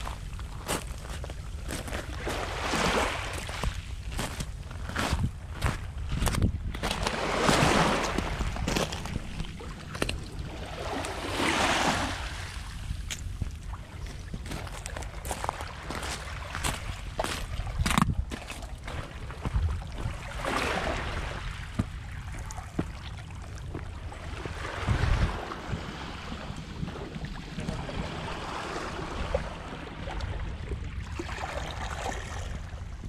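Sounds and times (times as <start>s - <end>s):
water washing on shoreline: 0.0s - 4.6s, 6.8s - 30.0s
wind buffeting microphone: 0.0s - 33.0s.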